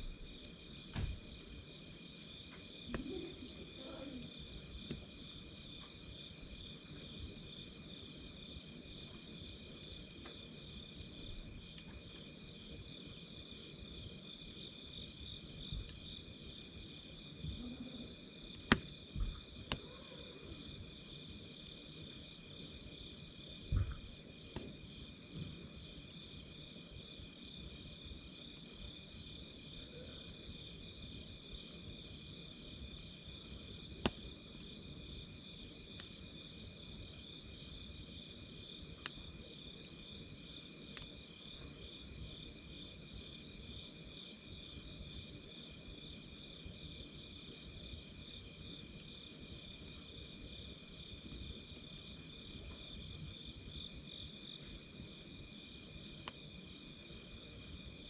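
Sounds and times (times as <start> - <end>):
insects chirping: 0.0 - 58.0
wood fire crackling: 0.0 - 58.0.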